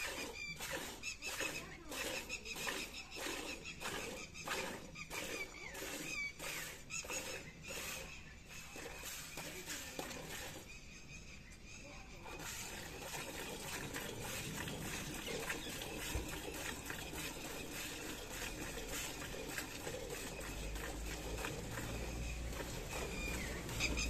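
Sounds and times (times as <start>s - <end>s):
milk squirting into a pail: 0.0s - 10.8s, 12.2s - 24.0s.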